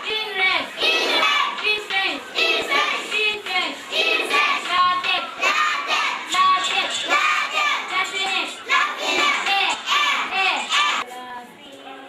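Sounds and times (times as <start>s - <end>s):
children chanting a lesson: 0.0s - 11.1s.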